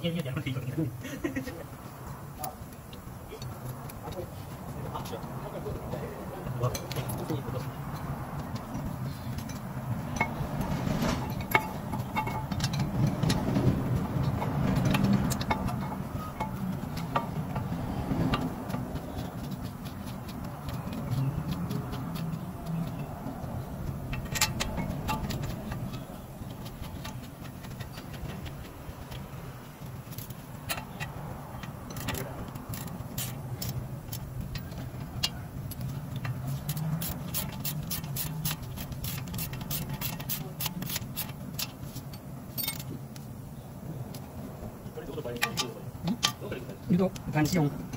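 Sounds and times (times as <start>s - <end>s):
hand tools and metal parts clinking: 0.0s - 43.4s, 44.9s - 47.9s
steady low hum: 0.0s - 47.9s.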